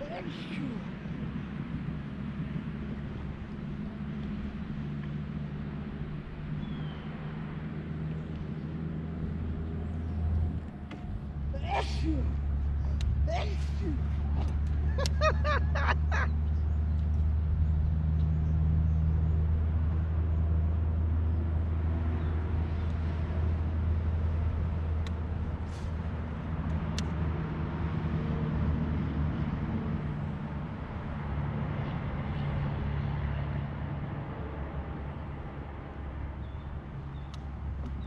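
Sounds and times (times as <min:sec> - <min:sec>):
low motor hum: 0:00.0 - 0:38.0.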